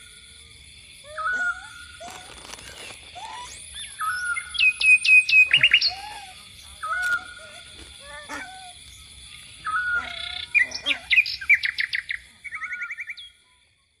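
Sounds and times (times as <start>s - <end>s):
birds chirping and trilling: 0.0s - 13.6s.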